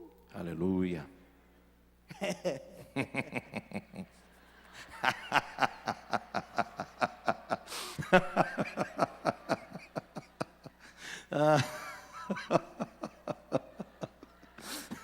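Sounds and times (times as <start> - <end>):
person laughing: 2.1 - 15.0.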